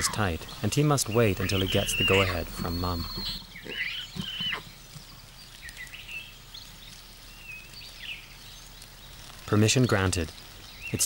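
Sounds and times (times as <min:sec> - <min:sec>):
birds chirping: 0:00.0 - 0:11.0
low steady background: 0:00.0 - 0:11.0.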